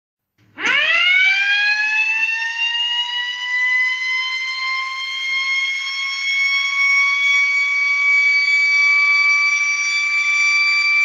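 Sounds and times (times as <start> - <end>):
electric motor siren wailing: 0.6 - 11.0.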